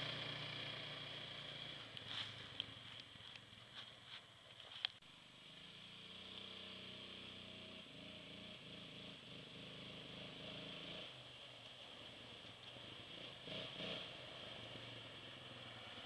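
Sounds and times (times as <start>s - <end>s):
distant atv engine: 0.0s - 16.0s.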